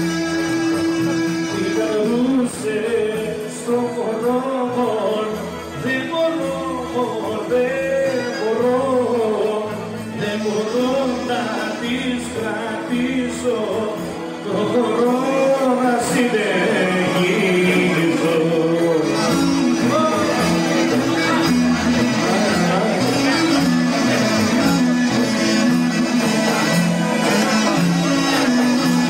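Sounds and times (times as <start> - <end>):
folk dance music: 0.0 - 29.0
man singing ornamented lines: 0.0 - 29.0.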